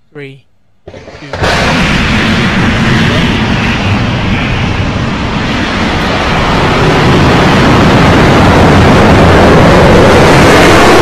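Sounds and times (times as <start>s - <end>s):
rocket engines roaring: 0.8s - 11.0s.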